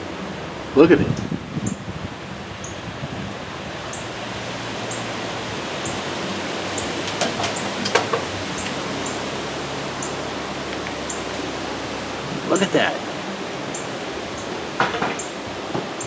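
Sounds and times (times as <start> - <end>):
wind rushing through trees: 0.0 - 16.0.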